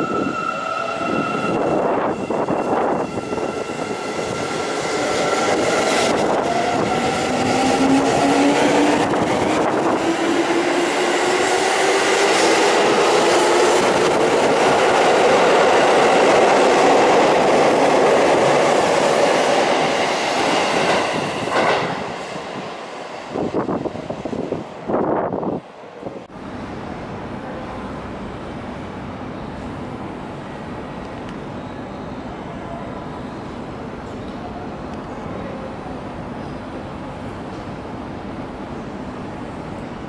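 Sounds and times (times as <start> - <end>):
train cars running noise: 0.0 - 40.0.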